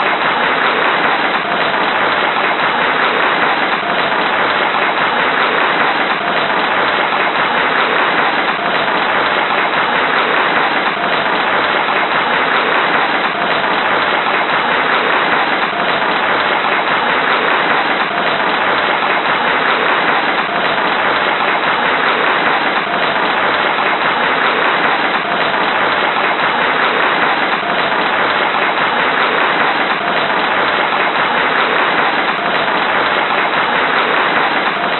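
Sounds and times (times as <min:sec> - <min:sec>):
crowd applause: 0:00.0 - 0:34.9.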